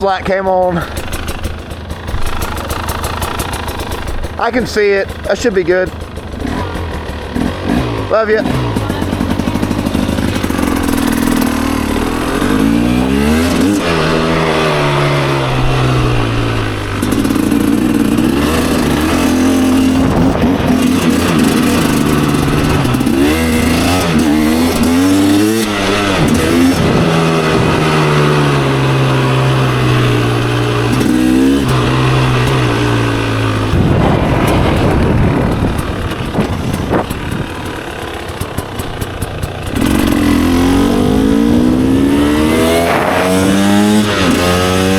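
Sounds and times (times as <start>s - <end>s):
two-stroke engine shifting gears: 0.0s - 44.9s.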